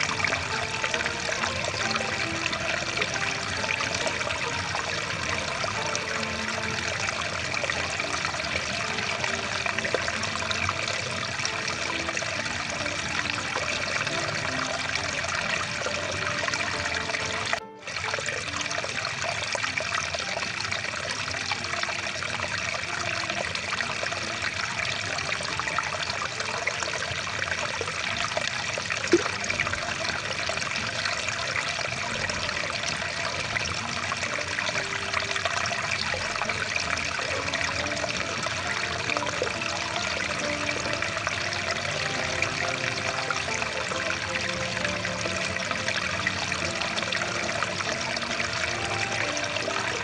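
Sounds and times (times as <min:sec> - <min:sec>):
stream water rushing: 0:00.0 - 0:50.0.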